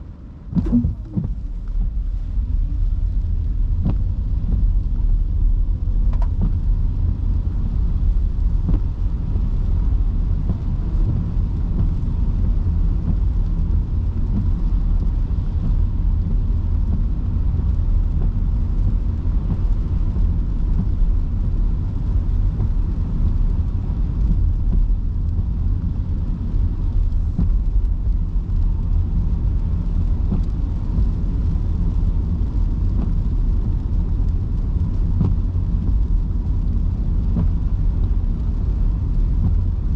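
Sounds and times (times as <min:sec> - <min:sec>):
car tyres rumbling on wet road: 0:00.0 - 0:39.9
rain and spray hissing: 0:00.2 - 0:39.9.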